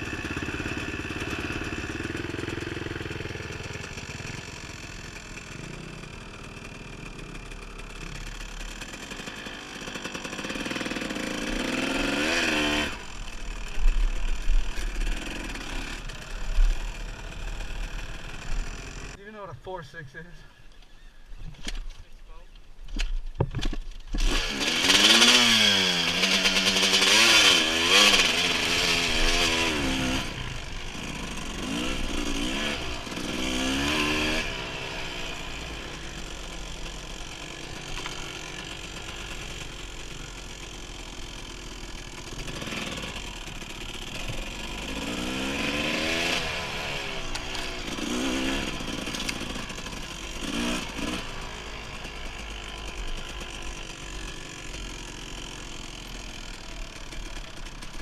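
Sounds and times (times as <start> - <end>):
dirt bike engine revving: 0.0 - 20.0, 24.1 - 58.0.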